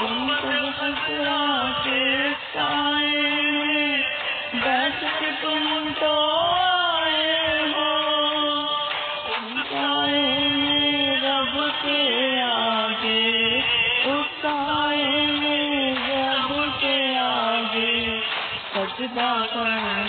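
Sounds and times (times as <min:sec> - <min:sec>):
person singing devotional song: 0:00.0 - 0:20.0.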